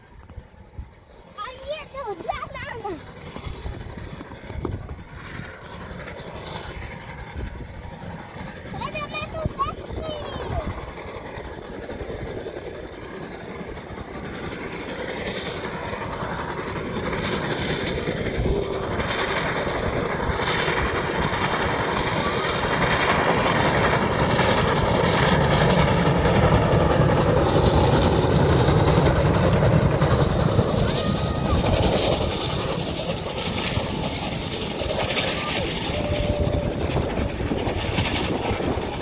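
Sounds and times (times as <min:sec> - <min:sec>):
steam locomotive running: 0:00.0 - 0:39.0
train wheels rumbling: 0:00.1 - 0:39.0.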